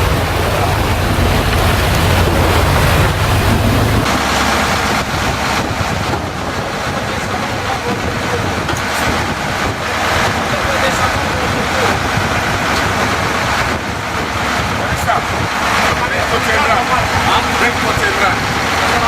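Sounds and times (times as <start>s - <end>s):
boat engine rumble: 0.0s - 19.0s
sea water noise: 0.0s - 19.0s
wind: 0.0s - 19.0s.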